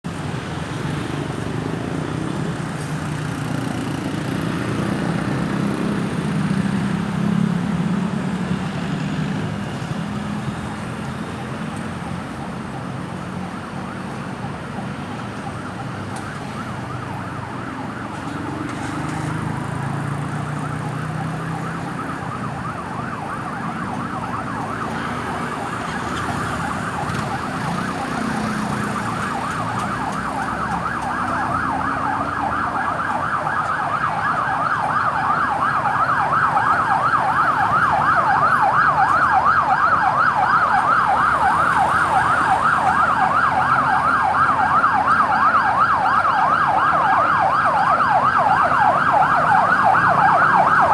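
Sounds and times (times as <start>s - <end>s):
ambulance siren yelping: 1.8s - 50.9s.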